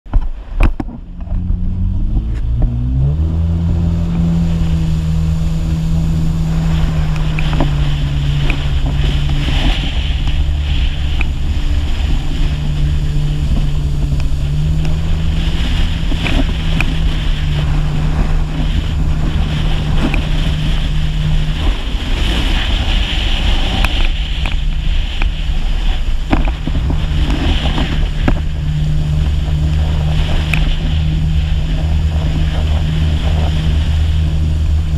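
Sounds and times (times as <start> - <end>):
personal watercraft engine: 0.0 - 34.9
rushing water and spray: 0.1 - 34.9.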